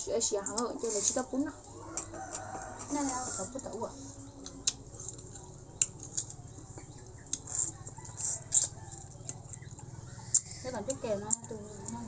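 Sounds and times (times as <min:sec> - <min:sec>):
people eating with crunches: 0:00.0 - 0:12.0.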